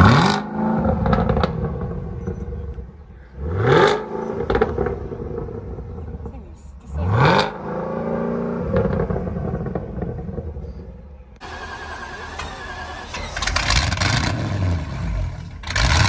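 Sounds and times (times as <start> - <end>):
car engine revving down: 0.0 - 10.7, 11.4 - 16.0
outdoor noise: 0.0 - 16.0.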